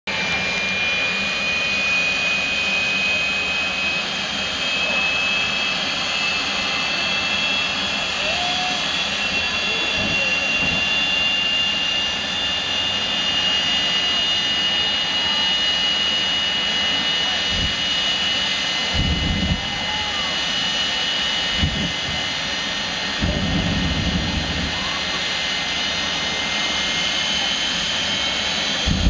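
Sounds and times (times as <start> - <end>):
jet engine roaring: 0.1 - 29.0.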